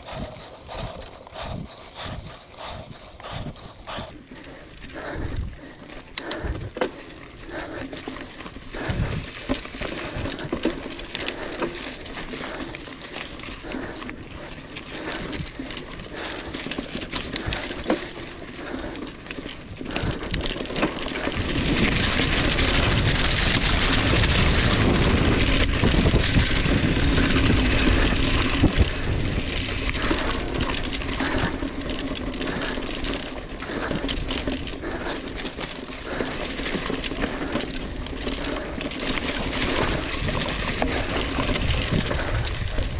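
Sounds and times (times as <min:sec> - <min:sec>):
mountain bike rattling over bumps: 0:00.0 - 0:42.9.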